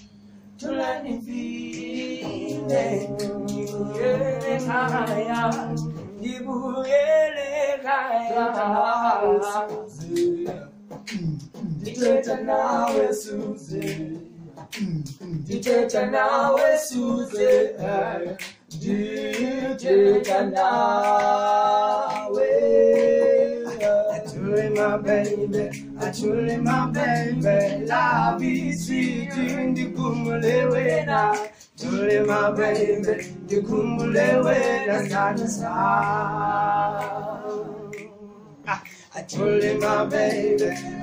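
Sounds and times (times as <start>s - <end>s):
men singing a cappella: 0.6s - 41.0s.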